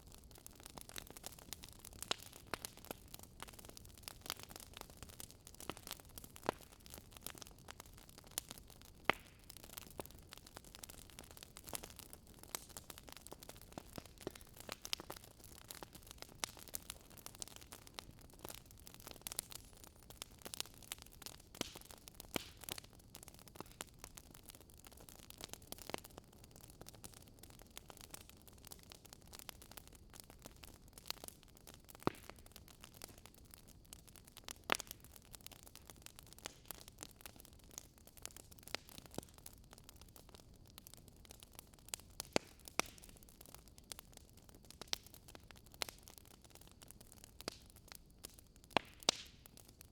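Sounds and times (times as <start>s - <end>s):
fireplace crackling: 0.1s - 26.3s, 27.0s - 49.8s.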